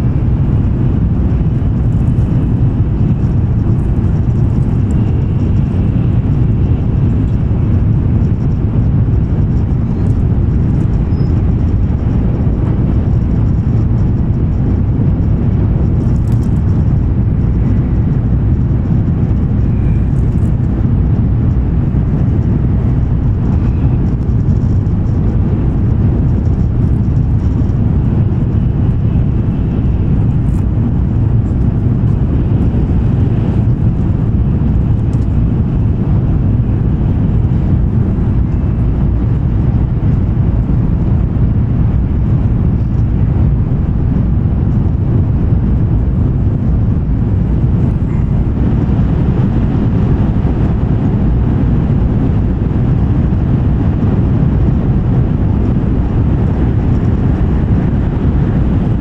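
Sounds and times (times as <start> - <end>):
train cabin rumble: 0.0 - 52.7.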